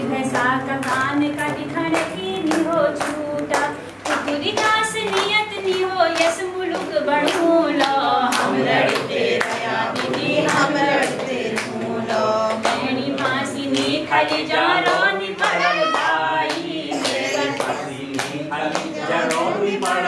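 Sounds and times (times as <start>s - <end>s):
group singing in chorus: 0.0s - 20.0s
hand-clapping beat: 0.0s - 20.0s.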